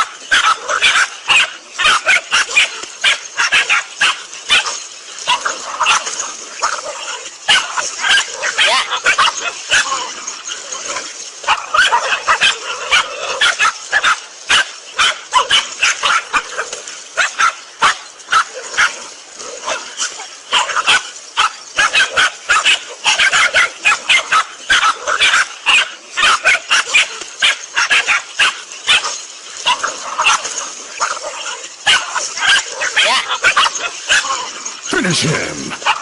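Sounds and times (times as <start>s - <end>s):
dog barking and yelping: 0.0s - 36.0s.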